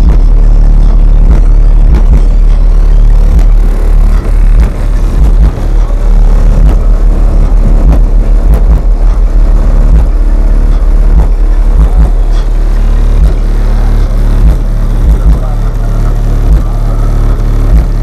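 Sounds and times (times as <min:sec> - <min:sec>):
car rattles: 0:00.0 - 0:18.0
loud subwoofer bass notes: 0:00.0 - 0:18.0.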